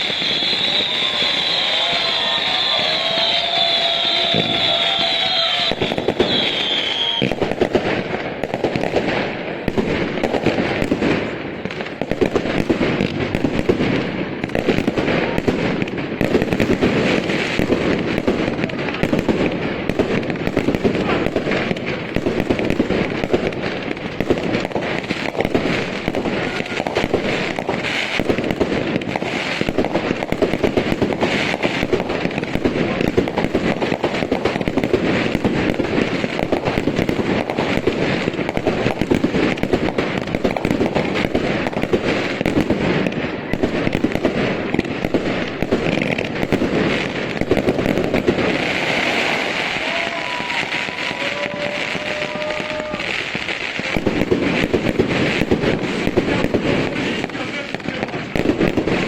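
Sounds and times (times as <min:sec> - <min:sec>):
fireworks bursting and popping: 0:00.0 - 0:59.0.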